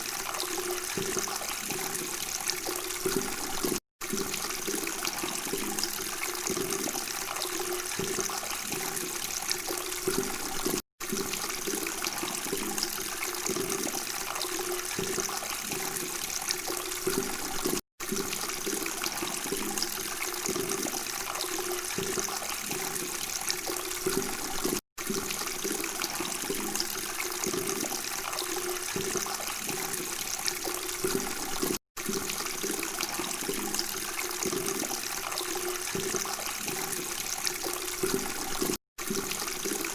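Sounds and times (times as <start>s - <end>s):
water flowing and babbling: 0.0s - 39.9s.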